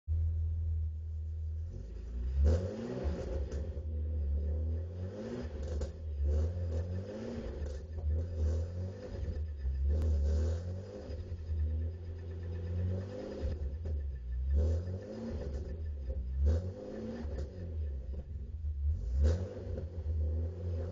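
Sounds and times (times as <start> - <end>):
car engine revving: 1.4 - 20.9.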